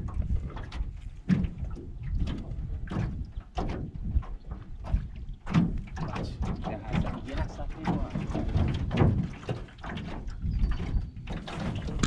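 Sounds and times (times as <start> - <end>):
water splashing against metal hull: 0.0 - 12.0
wind rumbling on microphone: 0.0 - 12.0.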